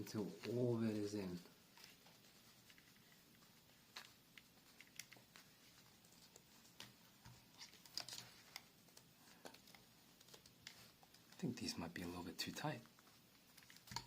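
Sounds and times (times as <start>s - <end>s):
ear pad clicks and rustles: 0.2s - 11.5s, 12.8s - 14.0s.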